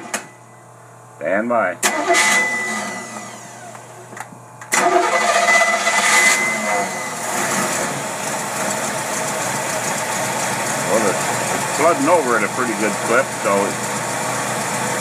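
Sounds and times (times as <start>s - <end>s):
engine starting and running rough: 1.8s - 15.0s.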